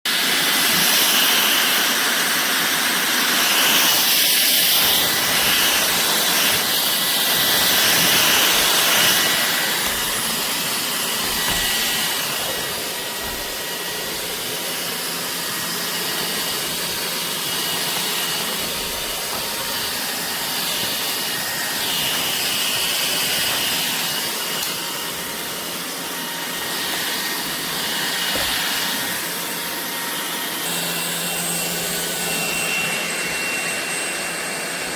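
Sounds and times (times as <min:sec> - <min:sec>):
stick vacuum running: 0:00.1 - 0:34.9.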